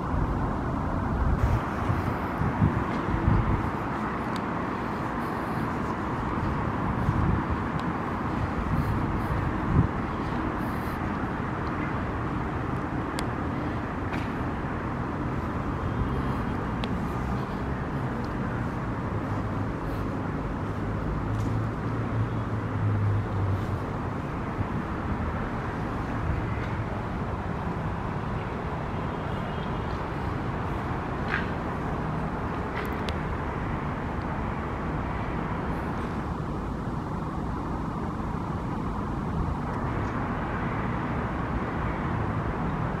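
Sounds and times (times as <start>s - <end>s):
city traffic drone: 0.0s - 43.0s.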